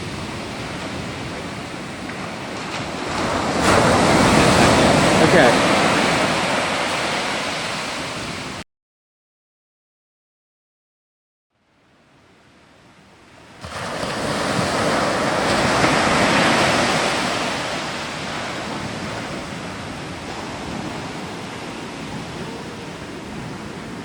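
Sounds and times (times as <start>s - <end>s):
surf washing: 0.0s - 8.6s, 11.7s - 24.0s.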